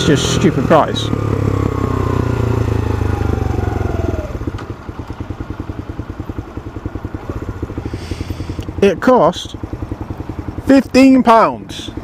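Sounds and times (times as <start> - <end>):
motorcycle engine slowing to idle: 0.0 - 12.0.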